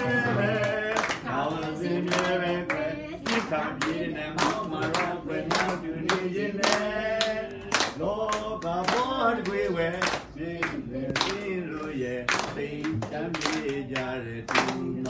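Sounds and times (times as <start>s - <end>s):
group clapping in time: 0.0s - 15.0s.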